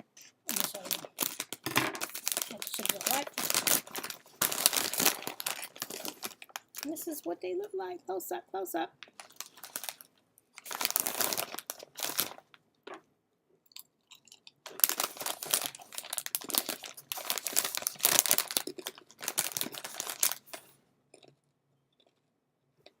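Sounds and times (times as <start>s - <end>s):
person chewing crisp chips: 0.5s - 6.9s, 9.2s - 12.5s, 13.7s - 23.0s.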